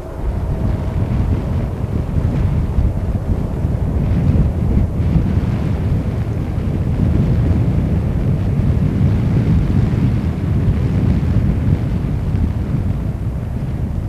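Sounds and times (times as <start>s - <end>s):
jet engines rumbling: 0.0s - 14.0s
wind buffeting microphone: 0.0s - 14.0s.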